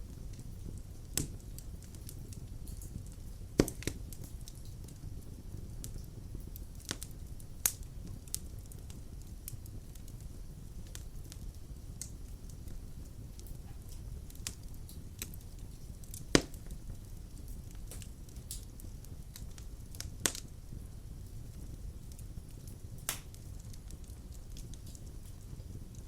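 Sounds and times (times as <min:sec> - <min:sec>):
fire low rumble: 0:00.0 - 0:26.0
wood fire crackling and popping: 0:00.0 - 0:26.0.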